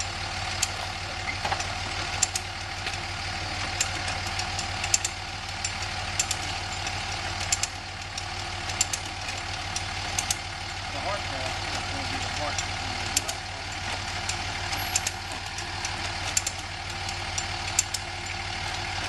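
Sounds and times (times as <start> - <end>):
engine idling: 0.0 - 19.0
sharp clicks and small knocks: 0.5 - 10.5, 11.6 - 19.0.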